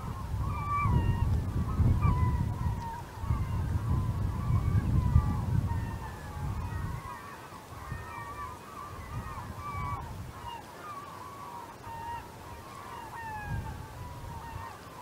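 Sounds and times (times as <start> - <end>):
wind rumble on microphone: 0.0 - 10.6, 12.1 - 14.8
gulls calling: 0.0 - 15.0.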